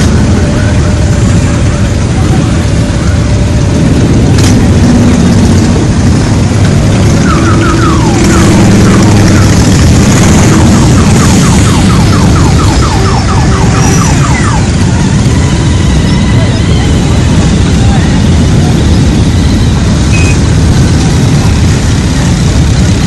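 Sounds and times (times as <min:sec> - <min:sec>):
motorcycles pulling away: 0:00.0 - 0:23.0.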